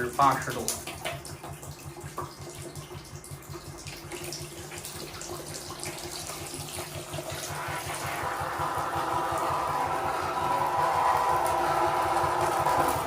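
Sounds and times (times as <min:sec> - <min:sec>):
pump pulsing rapidly: 0:00.0 - 0:13.0.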